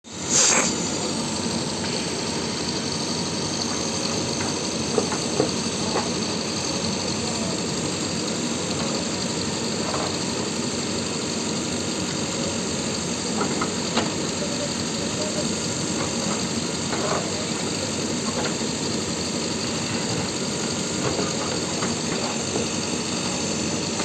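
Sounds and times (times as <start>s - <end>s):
diesel engine running: 0.1s - 24.0s.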